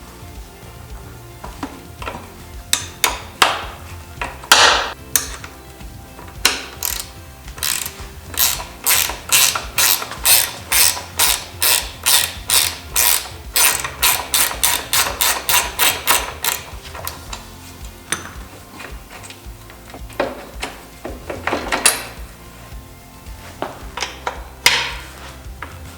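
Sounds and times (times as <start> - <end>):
ratchet wrench clicking: 1.6 - 5.6, 6.2 - 22.4, 23.4 - 25.8.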